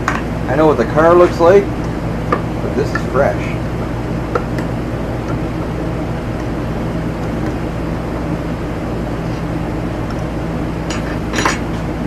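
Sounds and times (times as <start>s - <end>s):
low electrical hum: 0.0s - 12.0s
ventilation fan drone: 0.0s - 12.0s.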